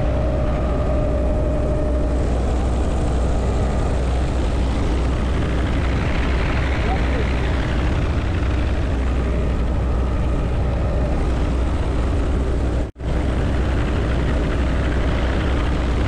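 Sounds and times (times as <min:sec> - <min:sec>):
engine and wind rushing: 0:00.0 - 0:16.0
helicopter rotor drone: 0:00.0 - 0:16.0.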